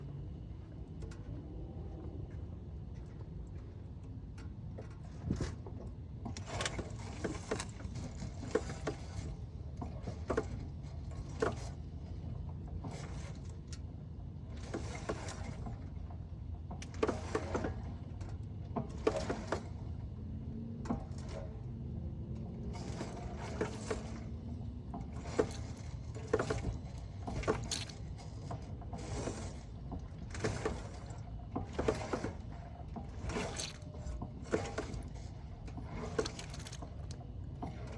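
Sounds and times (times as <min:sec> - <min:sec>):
low engine hum: 0:00.0 - 0:37.9
steering scraping with clicks: 0:00.3 - 0:37.9.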